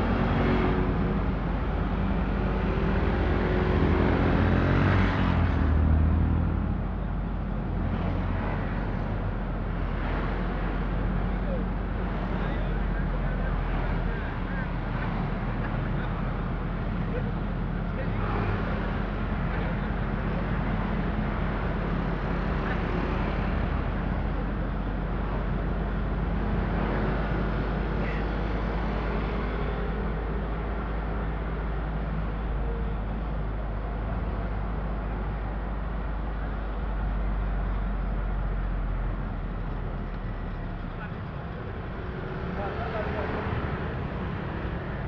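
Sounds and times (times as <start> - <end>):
car engine and tyre rumble: 0.0 - 45.0
surrounding traffic: 0.0 - 45.0.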